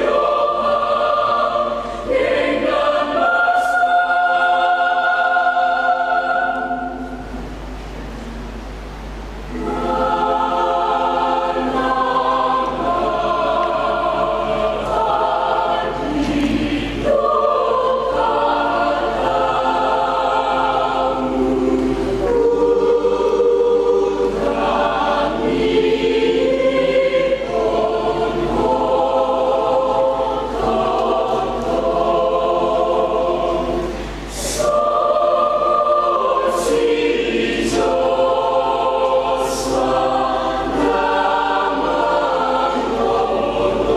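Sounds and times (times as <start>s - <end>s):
choir singing a hymn: 0.0s - 7.5s, 9.4s - 43.9s.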